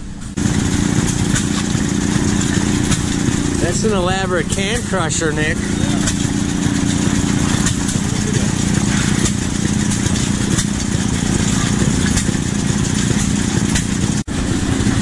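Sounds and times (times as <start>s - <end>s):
small stationary engine running: 0.4s - 15.0s.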